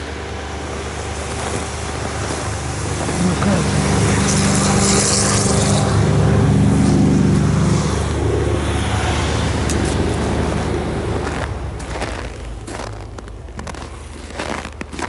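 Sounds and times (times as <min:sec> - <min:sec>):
road or wind noise hiss: 0:00.0 - 0:13.2
vehicle engine humming: 0:00.0 - 0:15.0.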